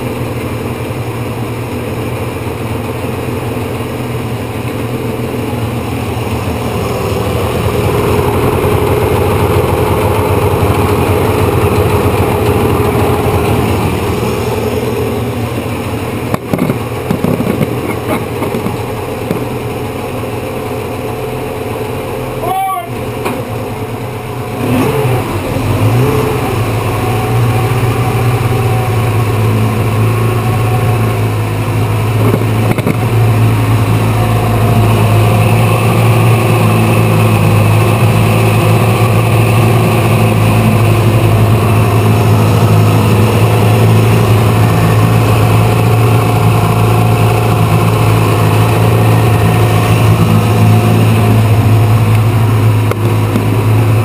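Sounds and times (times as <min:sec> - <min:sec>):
outboard motor running: 0:00.0 - 0:54.0
propeller churning water: 0:00.0 - 0:54.0.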